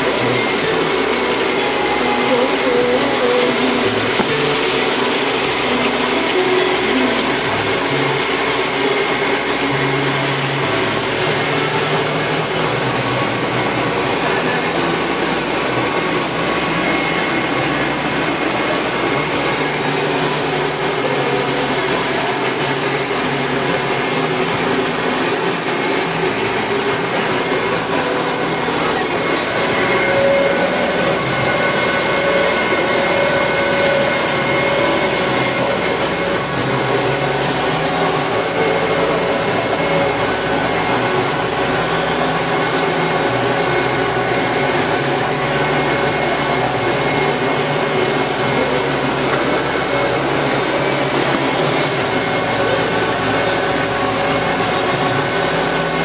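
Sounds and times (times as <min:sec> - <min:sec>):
tractor engine drone: 0:00.0 - 0:56.0.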